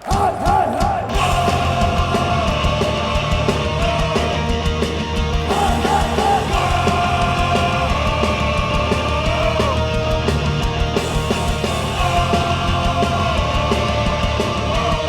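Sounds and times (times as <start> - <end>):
punk band playing: 0.0 - 15.0.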